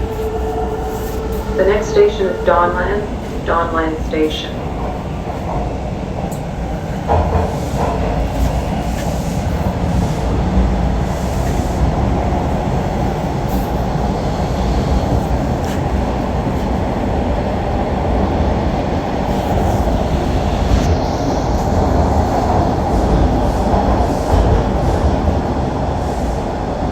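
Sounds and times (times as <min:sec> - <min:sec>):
subway train rumbling on track: 0:00.0 - 0:26.9.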